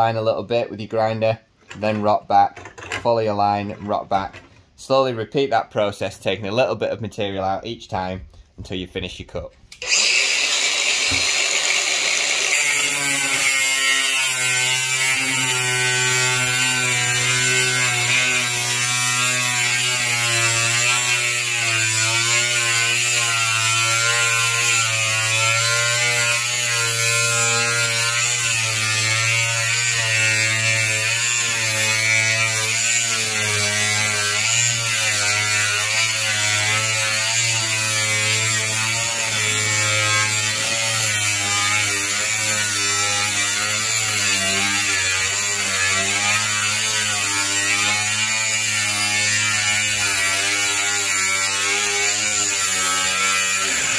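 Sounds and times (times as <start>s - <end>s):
angle grinder cutting steel: 9.7s - 53.9s.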